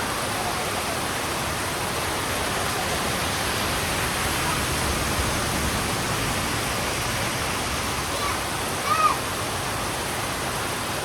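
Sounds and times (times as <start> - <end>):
heavy rain on a road: 0.0 - 11.0.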